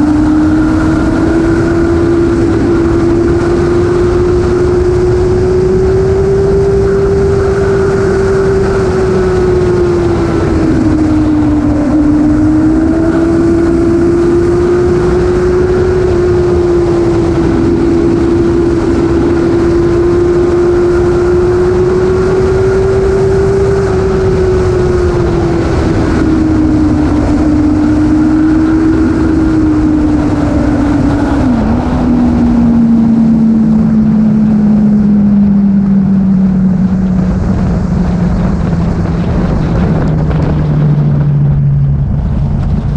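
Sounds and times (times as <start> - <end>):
vehicle engine droning: 0.0 - 42.9
wind and road noise: 0.0 - 42.9.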